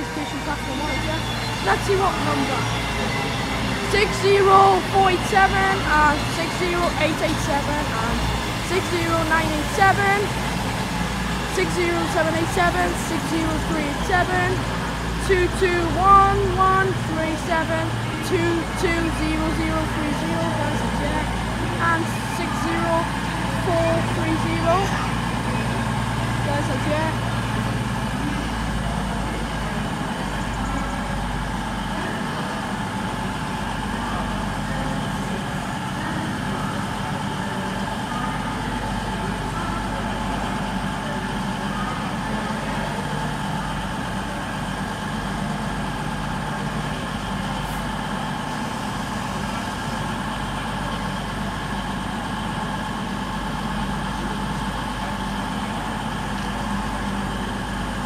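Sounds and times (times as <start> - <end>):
diesel train engines idling: 0.0 - 58.0.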